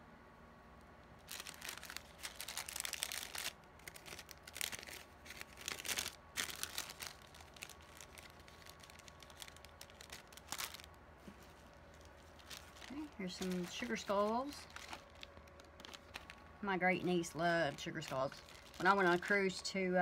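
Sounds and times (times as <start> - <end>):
plastic bag crinkling: 1.2 - 19.7.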